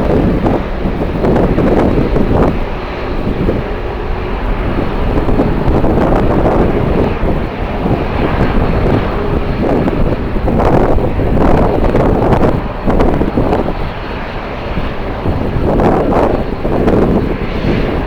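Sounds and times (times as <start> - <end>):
jet engines: 0.0 - 18.0
wind buffeting microphone: 0.0 - 18.0.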